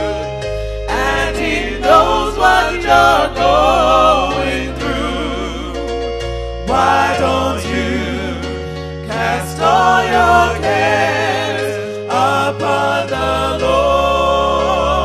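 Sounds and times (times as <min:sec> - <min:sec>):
gospel singing with vibrato: 0:00.0 - 0:15.0
sustained bass and chords: 0:00.0 - 0:15.0.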